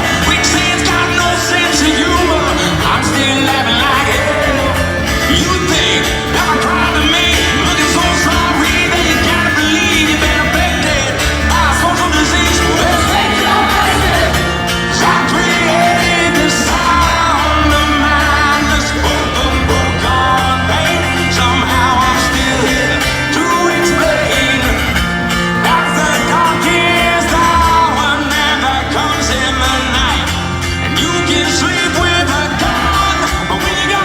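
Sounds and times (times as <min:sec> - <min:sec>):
rock song with male singer: 0:00.0 - 0:34.0.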